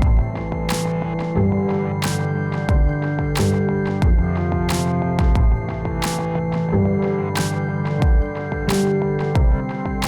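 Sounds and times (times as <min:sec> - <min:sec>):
steady drum beat: 0:00.0 - 0:01.4, 0:02.1 - 0:06.7, 0:07.4 - 0:10.0
held synth notes: 0:00.0 - 0:10.0.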